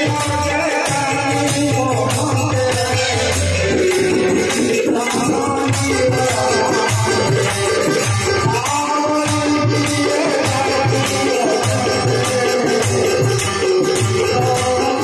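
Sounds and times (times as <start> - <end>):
hand drums: 0.0 - 15.0
harmonium chords: 0.0 - 15.0
man singing into microphone: 0.0 - 15.0.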